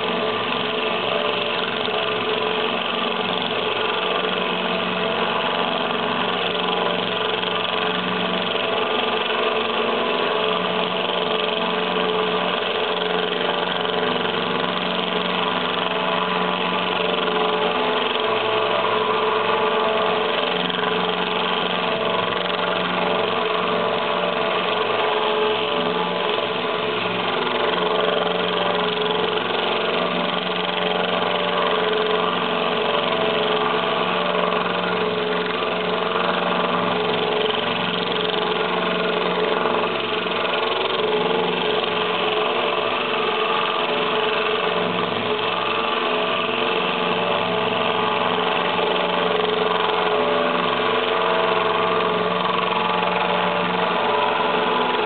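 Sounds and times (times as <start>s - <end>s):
drill motor whine: 0.0s - 55.0s.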